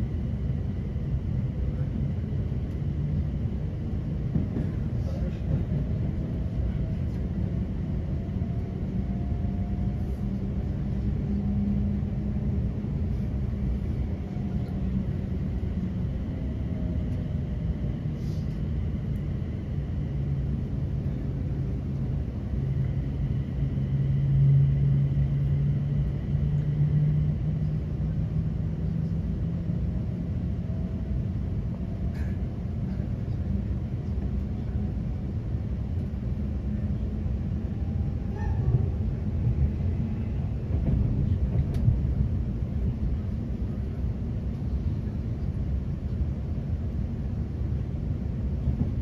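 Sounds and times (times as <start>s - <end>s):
train low rumble: 0.0s - 49.0s.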